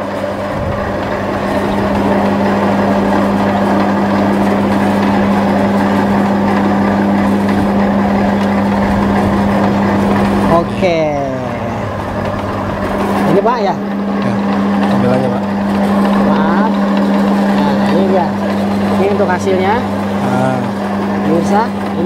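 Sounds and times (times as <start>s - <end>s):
noodle machine motor humming: 0.0s - 22.0s.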